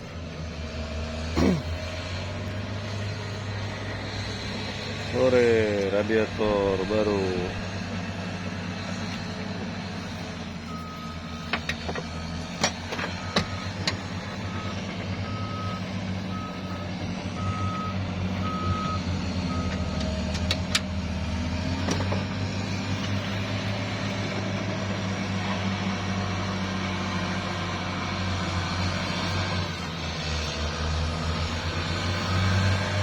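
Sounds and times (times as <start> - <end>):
engine humming: 0.0 - 33.0
vehicle reversing alarm beeping: 1.4 - 20.7, 21.3 - 30.8, 31.4 - 33.0.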